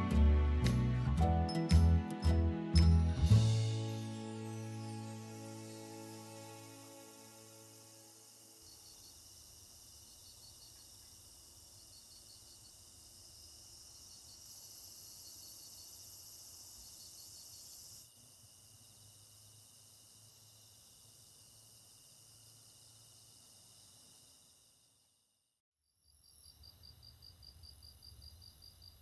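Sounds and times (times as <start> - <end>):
insects trilling: 4.1 - 29.0
cricket chirps: 4.2 - 29.0.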